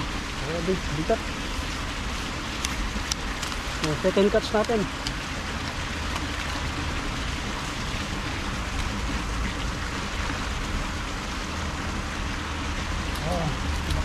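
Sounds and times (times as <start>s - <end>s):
water rushing in canal: 0.0s - 14.0s.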